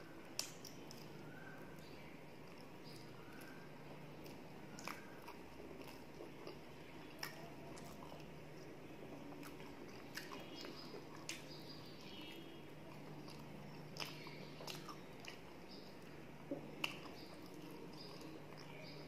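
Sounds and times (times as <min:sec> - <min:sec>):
chewing soft food: 0:00.1 - 0:19.0.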